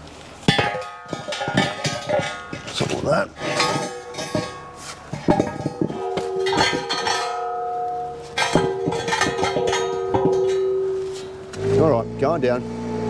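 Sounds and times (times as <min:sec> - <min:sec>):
metal axle stands clanking: 0:00.4 - 0:12.2.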